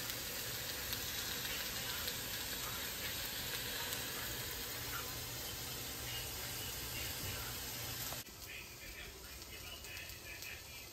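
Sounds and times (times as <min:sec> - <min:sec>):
chicken sizzling in oil: 0:00.0 - 0:10.9.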